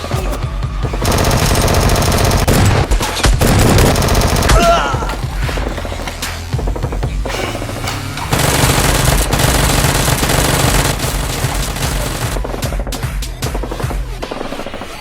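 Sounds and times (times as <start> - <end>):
action music: 0.0 - 15.0
rapid automatic gunfire: 1.0 - 4.7, 6.6 - 15.0.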